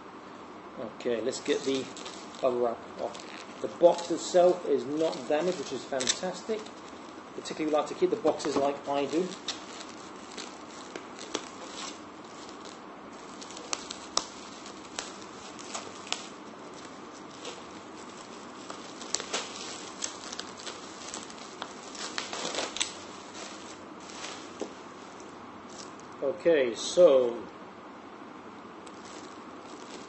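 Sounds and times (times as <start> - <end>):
bubble wrap crinkling: 1.2 - 26.2, 28.8 - 30.0.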